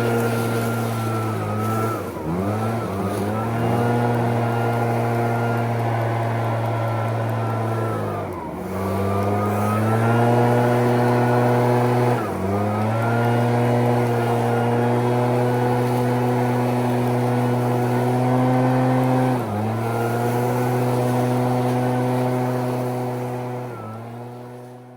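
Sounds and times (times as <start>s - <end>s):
leaf blower engine running: 0.0s - 24.9s.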